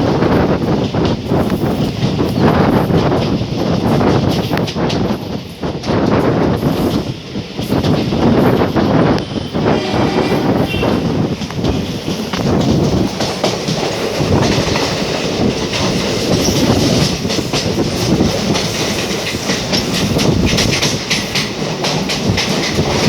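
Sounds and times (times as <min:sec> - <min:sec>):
clickety-clack over rail joints: 0:00.0 - 0:23.0
train wheels rumbling on rails: 0:00.0 - 0:23.0.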